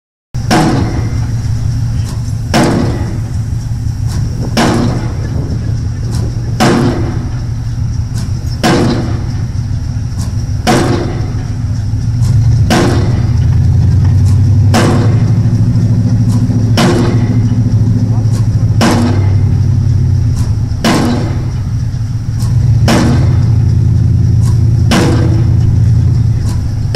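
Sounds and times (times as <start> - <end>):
excavator engine drone: 0.4 - 26.9
hydraulic hammer blows: 0.4 - 26.9.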